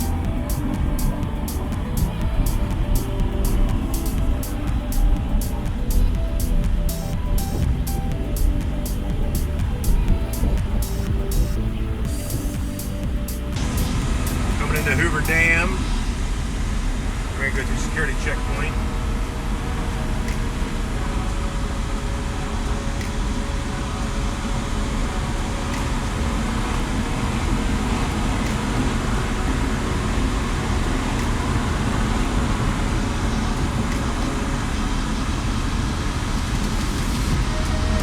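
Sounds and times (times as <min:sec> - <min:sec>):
car engine deep rumble: 0:00.0 - 0:38.0
tyre and road noise: 0:00.0 - 0:38.0.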